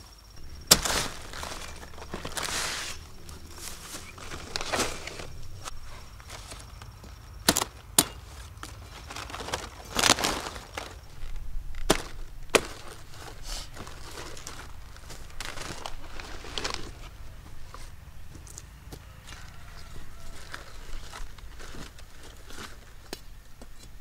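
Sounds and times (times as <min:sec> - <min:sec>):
rustling or scraping: 0:00.4 - 0:18.6, 0:19.2 - 0:23.0.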